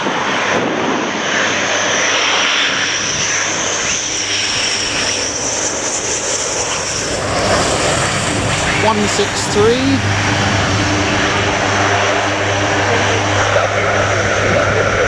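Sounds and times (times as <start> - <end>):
fighter jet engines roaring: 0.0 - 15.0.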